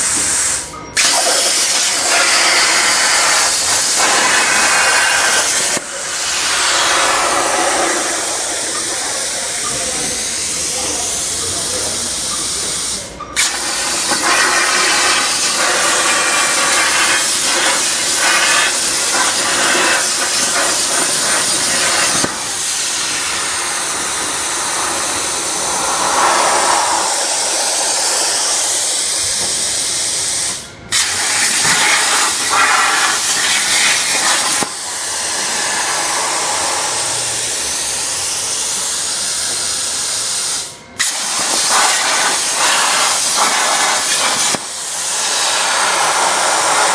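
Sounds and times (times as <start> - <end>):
plasma cutter torch hissing: 0.0 - 46.9.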